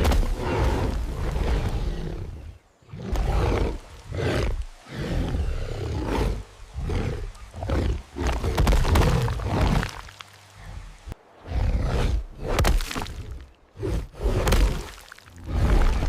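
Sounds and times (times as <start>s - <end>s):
lion and tiger roaring: 0.0s - 10.0s, 11.4s - 16.0s.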